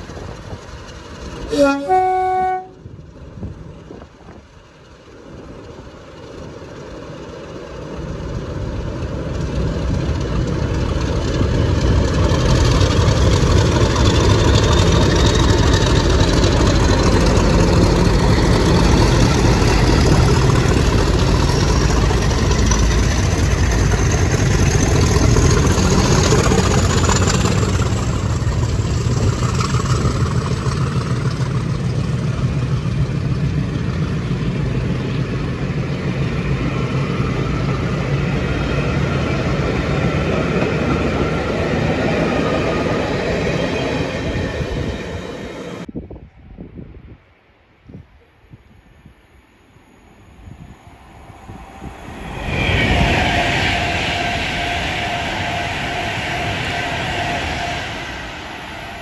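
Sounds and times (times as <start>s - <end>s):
train wheels on rails: 0.0s - 45.9s, 49.3s - 59.0s
diesel locomotive engine: 0.0s - 59.0s.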